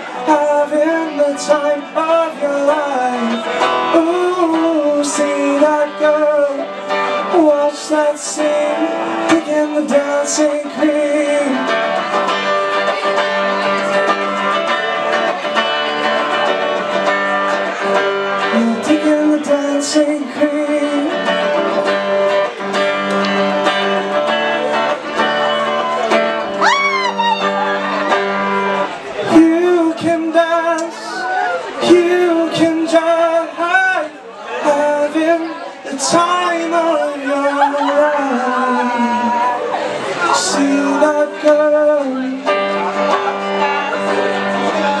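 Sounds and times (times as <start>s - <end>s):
person singing: 0.0s - 14.8s, 17.0s - 45.0s
electric guitar strummed and picked: 0.0s - 45.0s.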